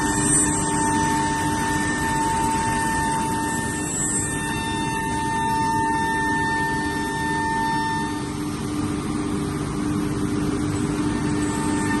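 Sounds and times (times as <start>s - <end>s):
cnc router whining: 0.0s - 12.0s.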